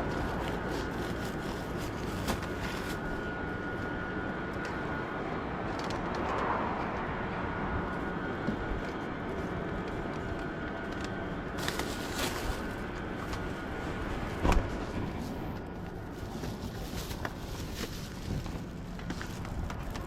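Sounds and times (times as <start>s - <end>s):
outdoor rumble and hiss: 0.0s - 20.0s.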